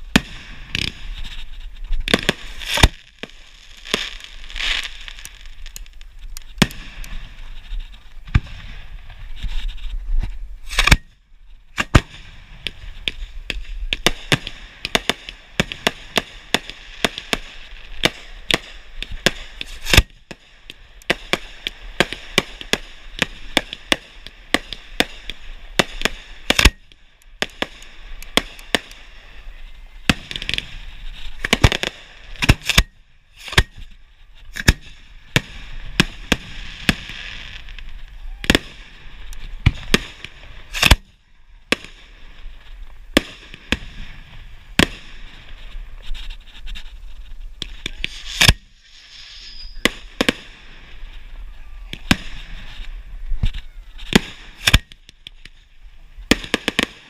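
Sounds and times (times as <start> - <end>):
fireworks bangs: 0.0 - 9.9, 10.6 - 57.0
steady hiss: 0.0 - 57.0.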